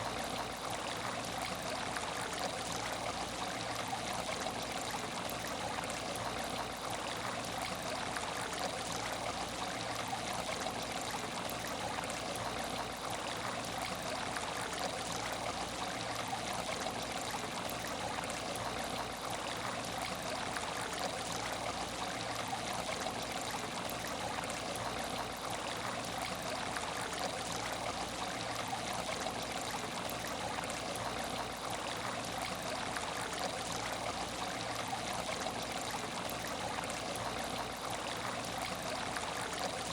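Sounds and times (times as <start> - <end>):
water trickling in aquarium: 0.0 - 39.9.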